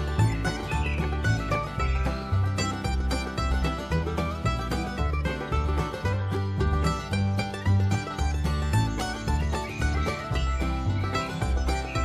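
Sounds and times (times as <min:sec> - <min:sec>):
plucked-string tune: 0:00.0 - 0:12.0
pulsing bass line: 0:00.0 - 0:12.0.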